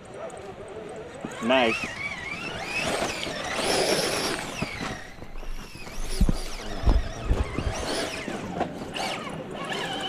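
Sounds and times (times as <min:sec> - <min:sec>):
electric motor whining: 0:01.2 - 0:10.0.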